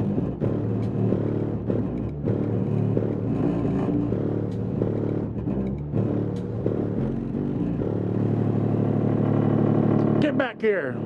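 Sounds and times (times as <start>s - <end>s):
subwoofer playing bass-heavy music: 0.0s - 11.0s.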